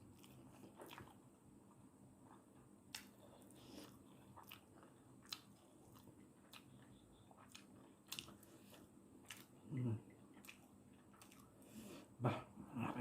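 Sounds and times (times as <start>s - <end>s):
chewing noodles: 0.0s - 1.2s, 2.3s - 11.6s.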